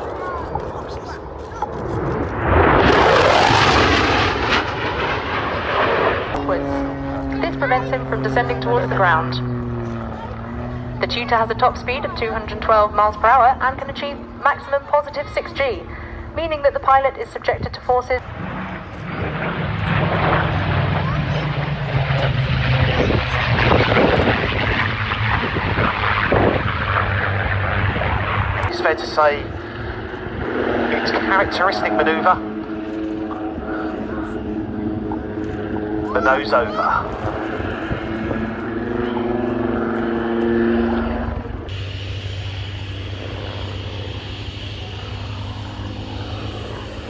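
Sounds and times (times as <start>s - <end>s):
propeller plane engine drone: 0.0s - 47.0s.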